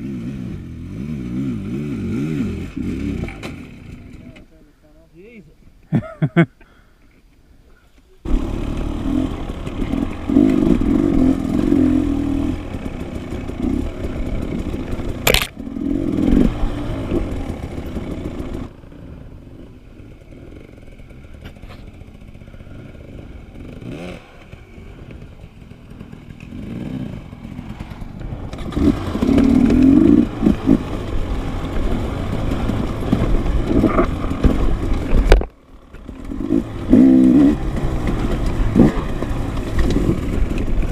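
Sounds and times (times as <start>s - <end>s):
dirt bike engine revving: 0.0s - 4.3s, 8.2s - 40.9s.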